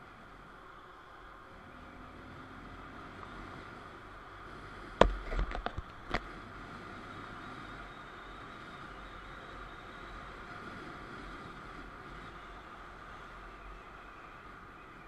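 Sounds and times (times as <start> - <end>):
motorcycle engine and road noise: 0.0 - 15.0.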